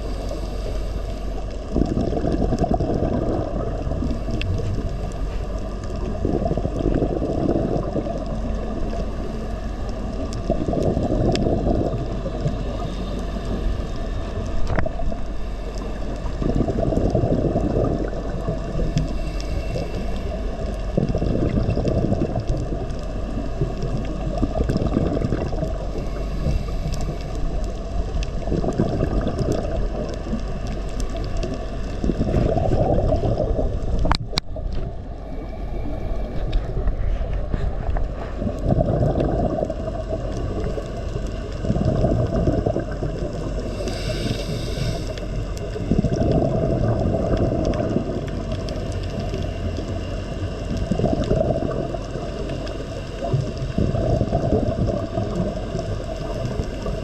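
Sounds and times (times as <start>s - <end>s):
muffled surging water: 0.0s - 57.0s.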